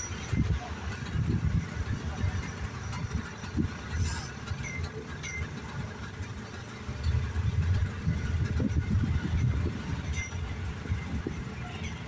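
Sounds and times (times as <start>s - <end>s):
traffic engines idling: 0.0s - 12.0s.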